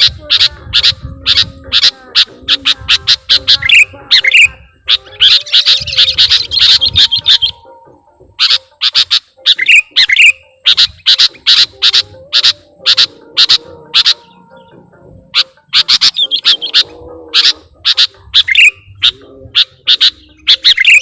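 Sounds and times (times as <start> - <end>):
bird chirping rapidly: 0.0 - 7.8, 8.4 - 21.0.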